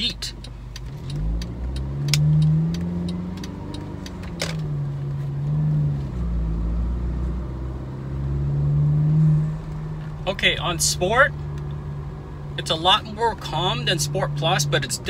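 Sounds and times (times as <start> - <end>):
car engine under throttle: 0.0 - 15.0.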